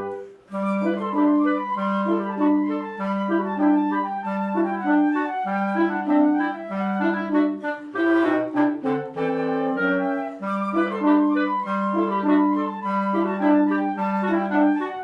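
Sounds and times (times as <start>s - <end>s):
wind ensemble playing: 0.0s - 15.0s.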